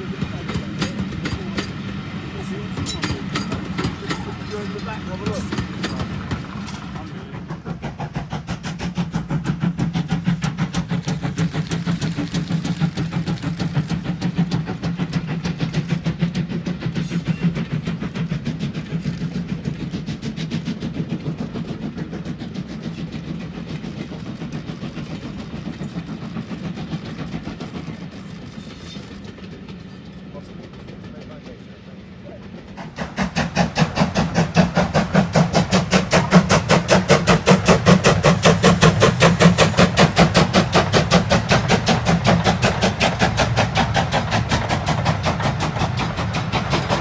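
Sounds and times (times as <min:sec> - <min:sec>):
steam locomotive exhaust beat: 0:00.0 - 0:47.0.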